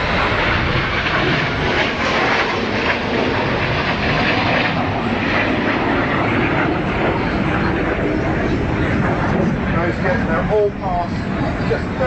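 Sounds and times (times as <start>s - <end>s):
jet engines flying overhead: 0.0s - 12.0s.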